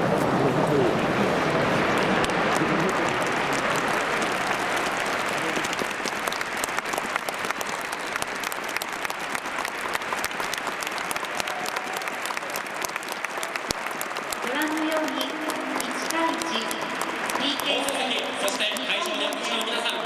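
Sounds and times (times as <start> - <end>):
crowd applauding: 0.0 - 20.0.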